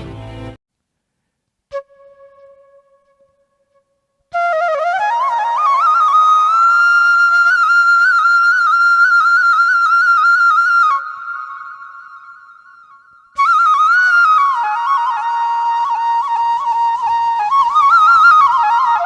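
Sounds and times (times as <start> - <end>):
bamboo flute playing: 1.7 - 19.0.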